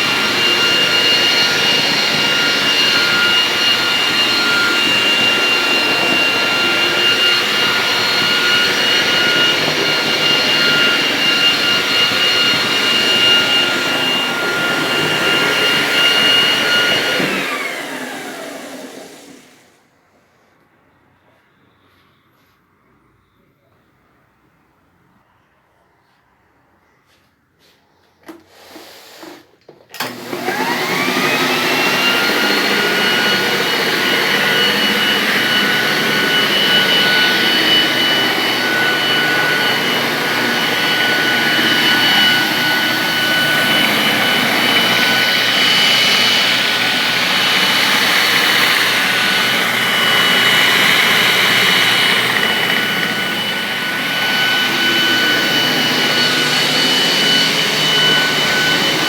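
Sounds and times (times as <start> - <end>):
floor buffer motor whine: 0.0 - 22.6, 28.3 - 59.0.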